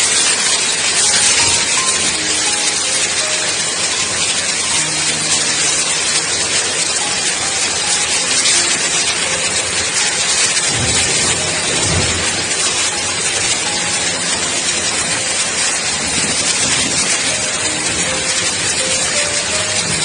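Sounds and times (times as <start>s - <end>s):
heavy rain and hail in wind: 0.0s - 20.0s.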